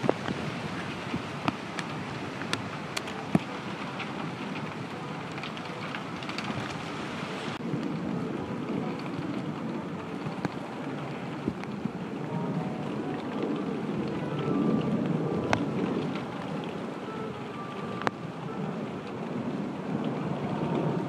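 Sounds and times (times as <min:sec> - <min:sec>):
raindrops ticking on a surface: 0:00.0 - 0:21.0
steady rain hiss: 0:00.0 - 0:21.0.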